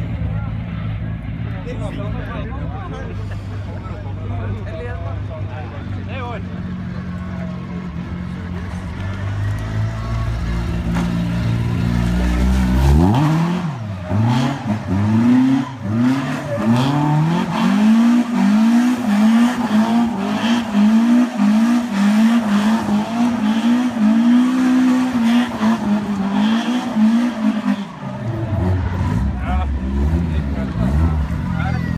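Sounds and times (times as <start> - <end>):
car engine revving: 6.1 - 31.9.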